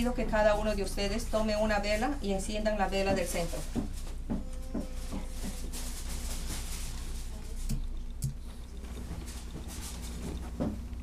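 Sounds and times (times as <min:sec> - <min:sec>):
faint rustling: 0:00.5 - 0:11.0.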